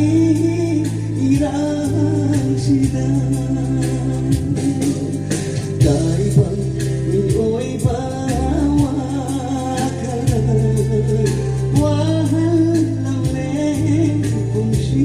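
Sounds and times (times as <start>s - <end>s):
bass line: 0.0s - 15.0s
person singing: 0.0s - 15.0s
steady beat: 0.0s - 15.0s.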